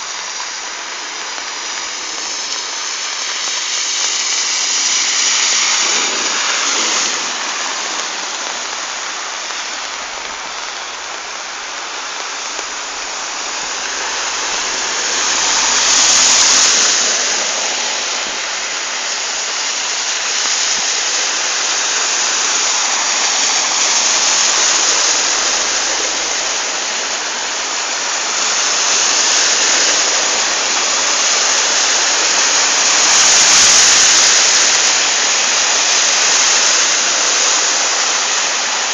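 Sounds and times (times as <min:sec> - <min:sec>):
water rushing and splashing: 0:00.0 - 0:38.9.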